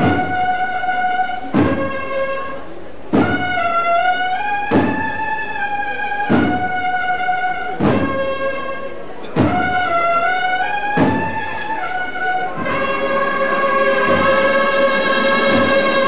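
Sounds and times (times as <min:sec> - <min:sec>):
brass band playing slow march: 0:00.0 - 0:16.0.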